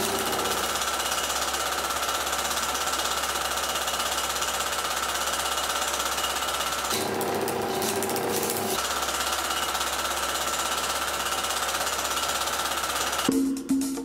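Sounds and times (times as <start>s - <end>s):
rapid mechanical clattering: 0.0s - 13.4s.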